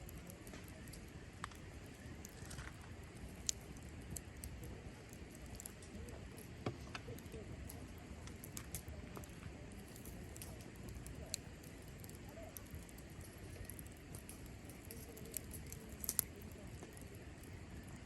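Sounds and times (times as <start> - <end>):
campfire crackling and popping: 0.0 - 18.0
low fire rumble: 0.0 - 18.0.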